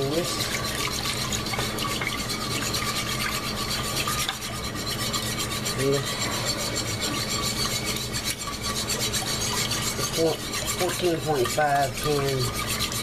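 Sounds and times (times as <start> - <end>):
whisk scraping in pot: 0.0 - 13.0.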